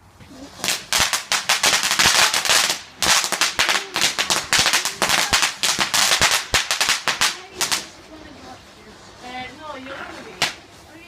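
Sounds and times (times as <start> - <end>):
fireworks hissing: 0.0 - 11.0
fireworks crackling bangs: 0.1 - 11.0.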